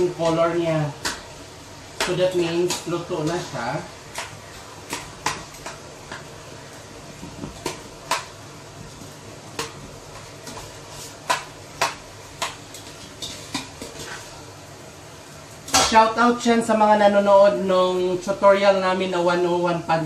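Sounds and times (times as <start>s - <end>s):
onion frying in oil: 0.0s - 20.0s.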